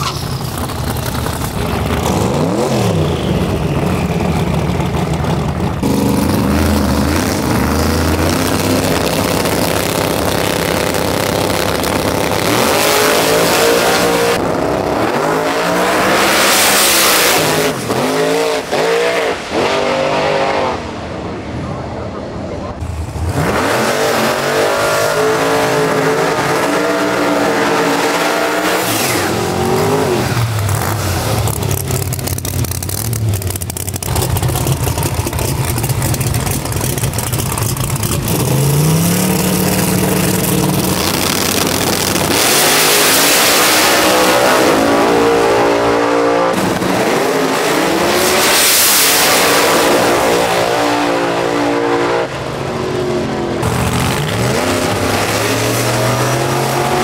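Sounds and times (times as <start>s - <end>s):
drag racing car engines revving: 0.0s - 57.0s.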